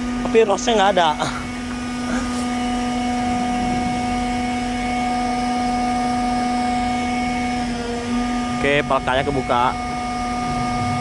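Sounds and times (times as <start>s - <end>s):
hatch machinery hum and whine: 0.0s - 11.0s.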